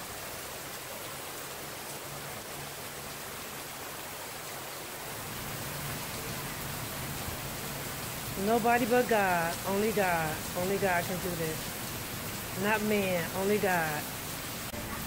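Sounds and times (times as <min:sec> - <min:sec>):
rain pouring on pavement: 0:00.0 - 0:15.0.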